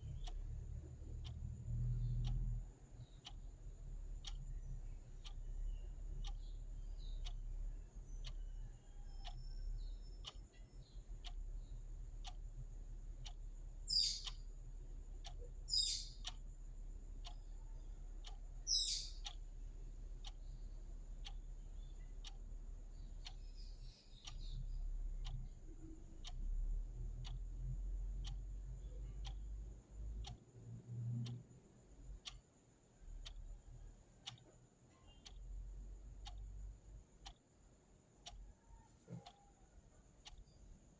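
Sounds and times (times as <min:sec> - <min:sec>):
mechanical clock ticking: 0:00.0 - 0:40.9.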